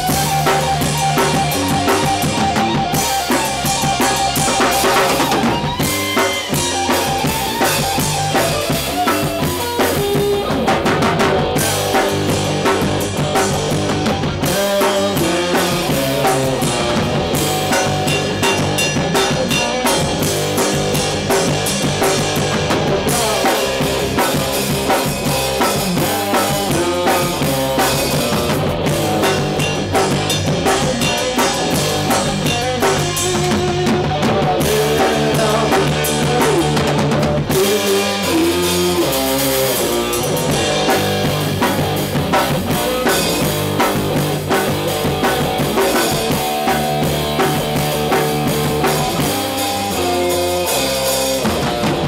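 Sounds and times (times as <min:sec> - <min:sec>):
drum kit: 0:00.0 - 0:52.0
electric bass: 0:00.0 - 0:52.0
electric guitar: 0:00.0 - 0:52.0.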